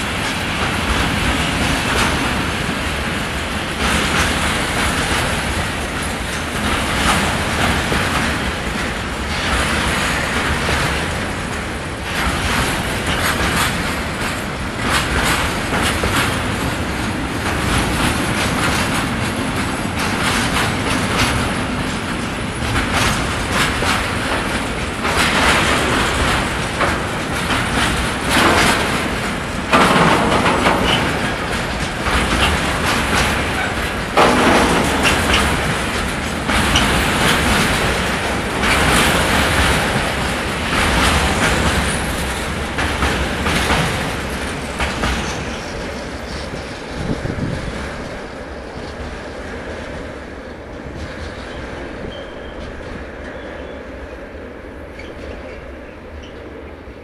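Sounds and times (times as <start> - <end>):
train wheels rolling: 0.0 - 57.0
wheels clacking over rail joints: 0.0 - 57.0.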